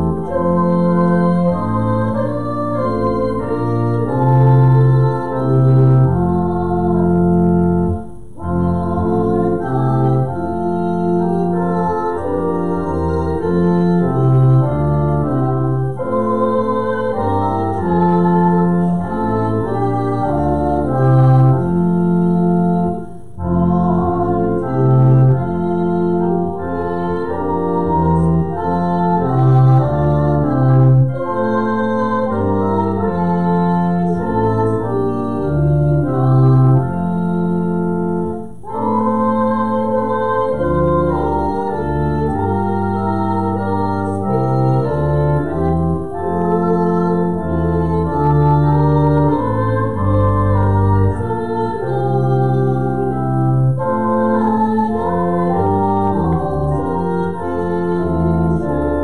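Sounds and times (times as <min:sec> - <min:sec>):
church organ playing a hymn: 0:00.0 - 0:59.0.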